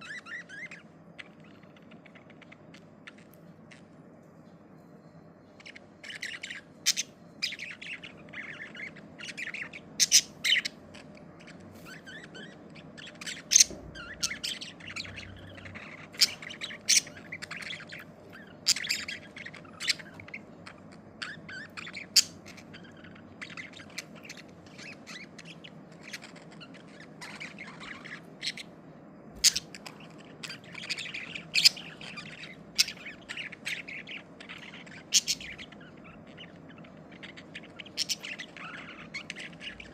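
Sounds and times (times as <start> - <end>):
budgerigars chirping and squawking: 0.0 - 4.2, 5.4 - 39.9
faint low background noise: 0.0 - 39.9.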